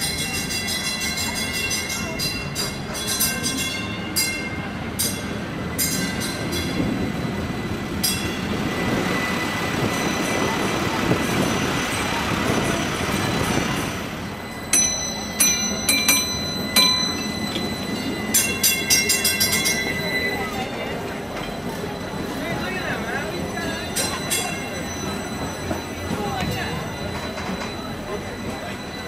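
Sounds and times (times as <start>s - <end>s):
streetcar rumble and hiss: 0.0s - 29.0s
streetcar wheels clattering: 0.0s - 29.0s.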